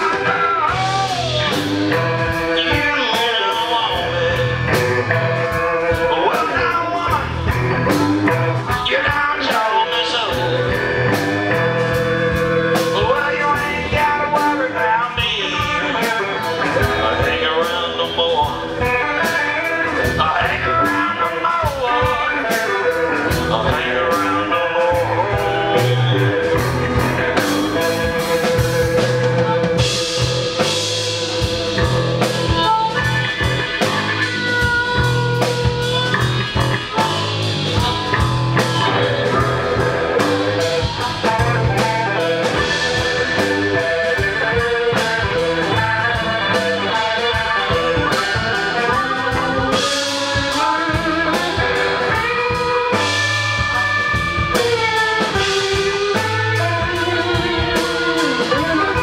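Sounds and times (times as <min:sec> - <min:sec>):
drum kit beat: 0:00.0 - 0:59.0
electric guitars: 0:00.0 - 0:59.0
harmonica: 0:10.4 - 0:59.0.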